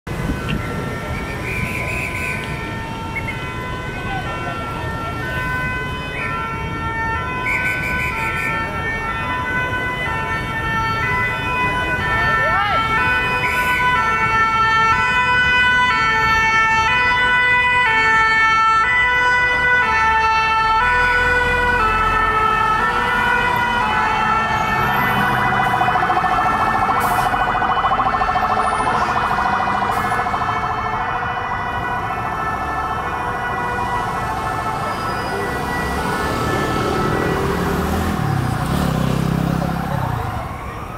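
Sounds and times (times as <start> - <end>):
fast warbling siren: 0.1 - 40.9
two-tone siren: 0.1 - 40.9.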